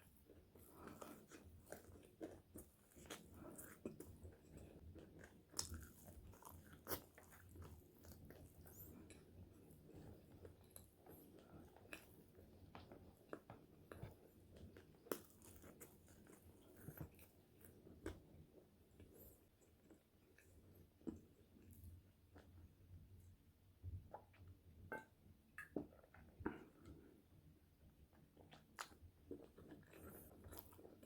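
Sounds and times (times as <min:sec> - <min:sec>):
chewing crispy fries: 0:00.1 - 0:22.6, 0:28.1 - 0:31.0.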